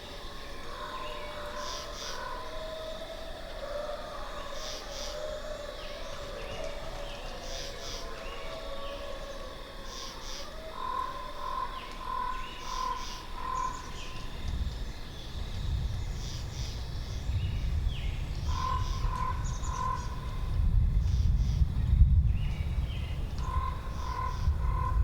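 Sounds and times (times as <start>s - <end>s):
wind gusts: 0.0s - 25.0s.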